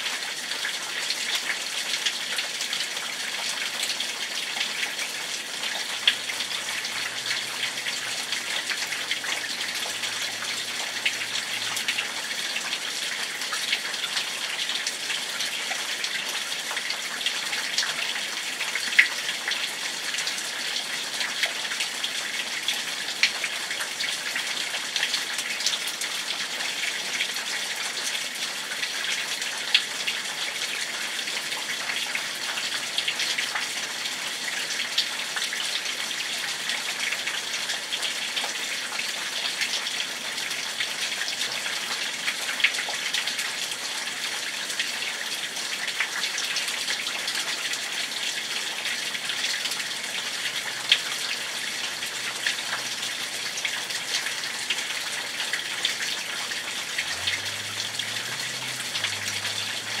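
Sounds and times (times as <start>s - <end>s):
steady rain hiss: 0.0s - 60.0s.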